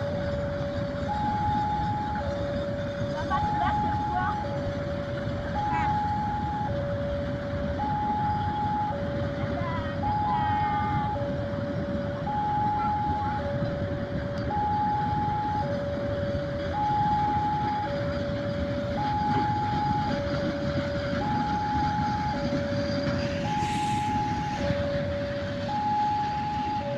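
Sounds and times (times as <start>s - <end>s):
passing train rumble: 0.0s - 26.9s
two-tone crossing alarm: 0.0s - 26.9s.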